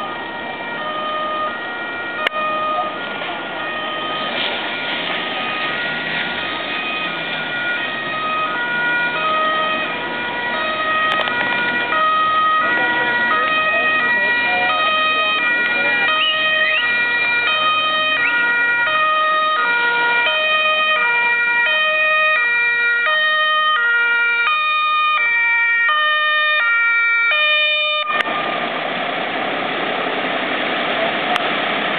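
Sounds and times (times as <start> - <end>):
two-tone fire engine siren: 0.0 - 29.0
fire engine engine rumbling: 0.0 - 31.9.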